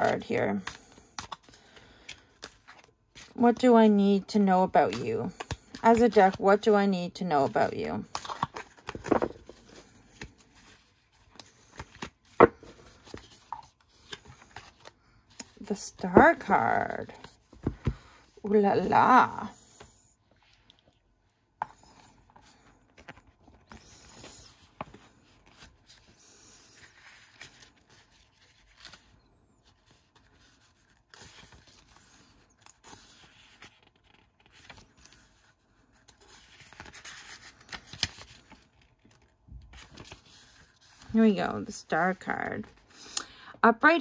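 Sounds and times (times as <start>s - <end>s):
book pages rustling: 0.0s - 42.9s.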